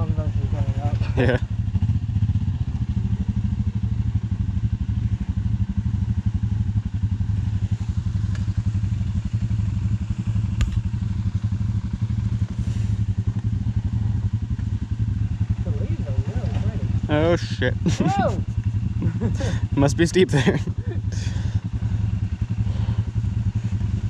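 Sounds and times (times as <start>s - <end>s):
dirt bike engine idling: 0.0s - 24.0s.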